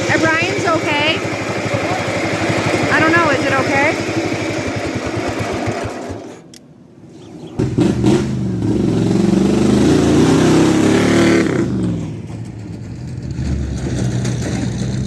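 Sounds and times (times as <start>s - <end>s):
vehicle engine revving: 0.0s - 6.4s, 7.1s - 15.0s.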